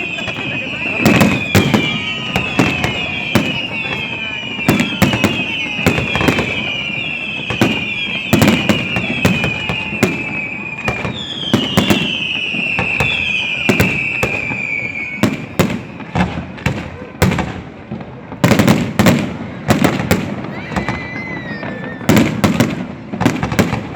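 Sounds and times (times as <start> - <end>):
falling firework whistles: 0.0 - 17.5, 18.4 - 23.9
fireworks bangs and crackles: 0.0 - 23.9.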